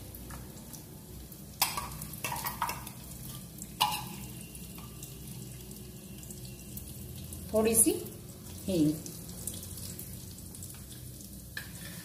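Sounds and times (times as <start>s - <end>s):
seeds sizzling in hot oil: 0.0s - 12.0s.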